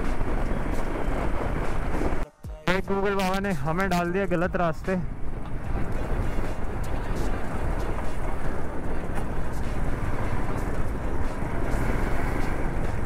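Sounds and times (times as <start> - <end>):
motorcycle road noise: 0.0 - 2.2, 3.0 - 13.0
wind rush: 0.0 - 2.3, 3.5 - 13.0.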